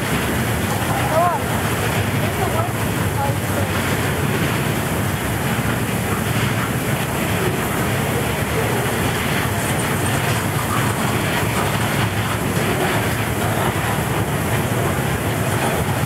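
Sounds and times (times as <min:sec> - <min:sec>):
steel wheels rumbling on track: 0:00.0 - 0:16.0.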